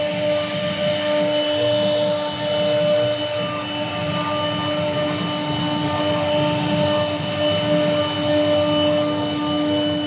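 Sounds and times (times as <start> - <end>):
cnc router whine: 0.0 - 10.0.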